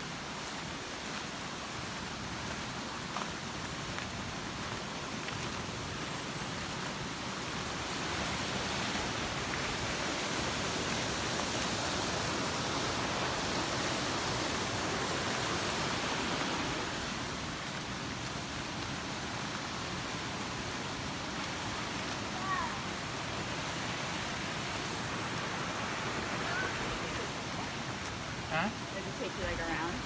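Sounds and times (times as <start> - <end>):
river rushing over rock: 0.0 - 30.0.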